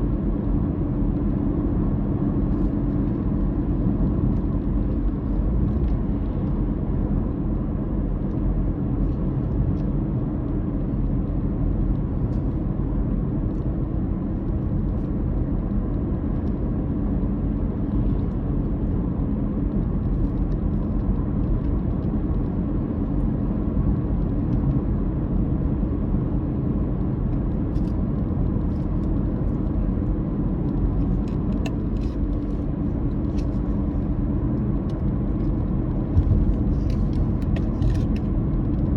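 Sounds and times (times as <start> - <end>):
road rumble: 0.0 - 38.9.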